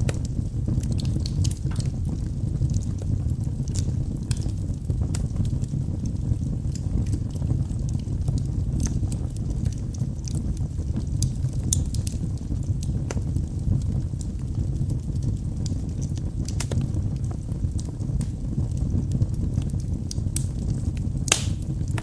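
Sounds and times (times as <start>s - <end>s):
logs crackling and popping: 0.0s - 22.0s
wood fire burning: 0.0s - 22.0s.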